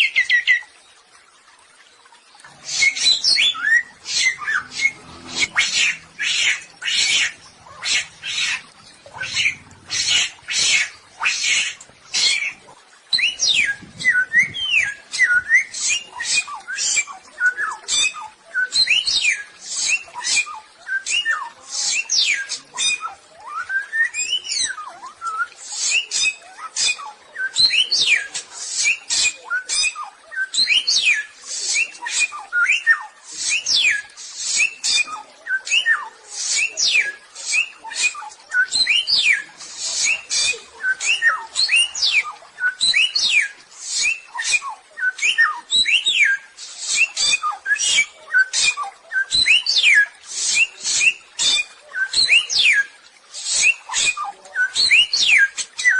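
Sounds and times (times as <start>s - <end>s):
harsh hissy bird chatters: 2.5s - 55.9s
songbird whistling song: 2.5s - 55.9s.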